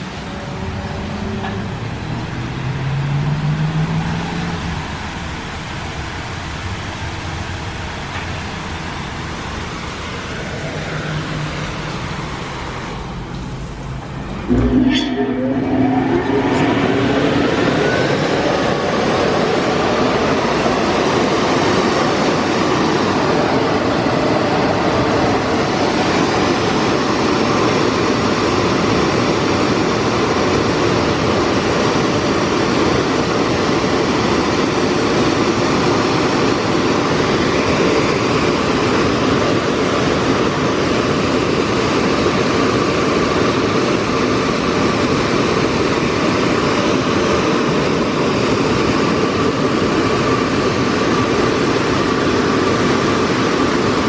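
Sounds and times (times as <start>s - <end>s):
car wash blow dryers rushing air: 0.0s - 54.0s.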